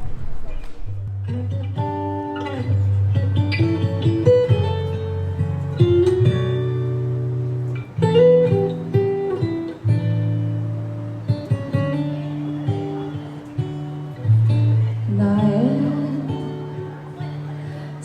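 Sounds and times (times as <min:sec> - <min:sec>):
acoustic guitar strumming and plucking: 0:00.0 - 0:18.0.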